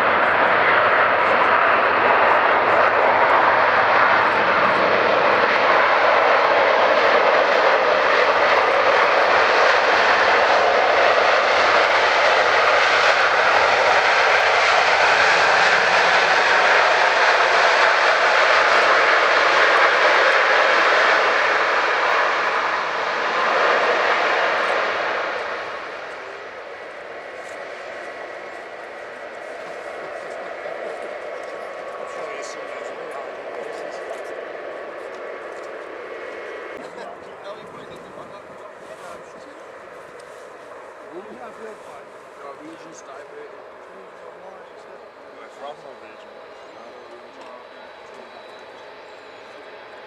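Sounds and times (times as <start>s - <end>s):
jet engines passing: 0.0s - 50.0s.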